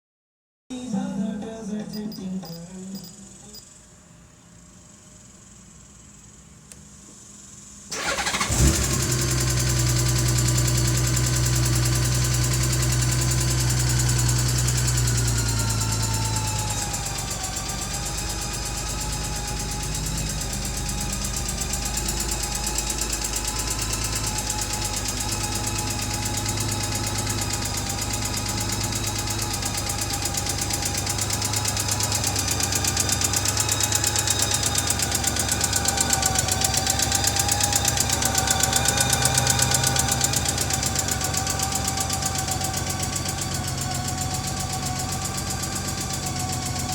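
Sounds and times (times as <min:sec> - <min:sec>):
motorcycle engine ticking: 0:08.0 - 0:46.9.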